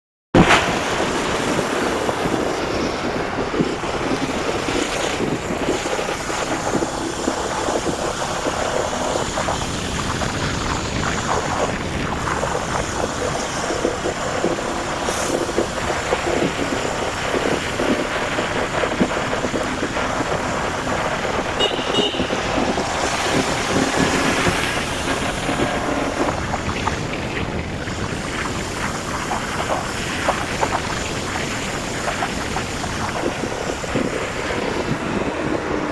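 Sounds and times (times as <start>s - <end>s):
wind buffeting microphone: 0.4s - 35.9s
motorcycle engine running: 0.6s - 35.9s.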